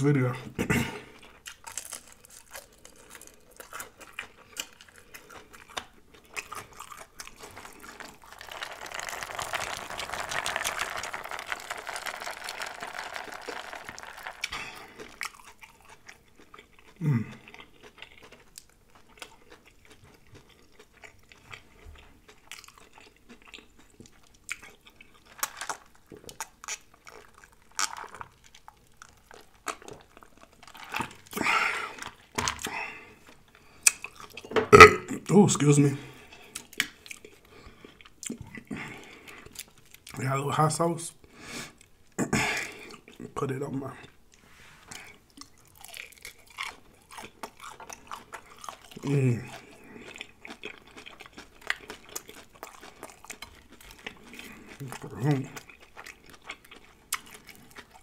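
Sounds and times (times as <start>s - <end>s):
chewing crunchy fried shrimp: 0.6s - 35.0s, 35.7s - 40.2s, 44.0s - 58.0s.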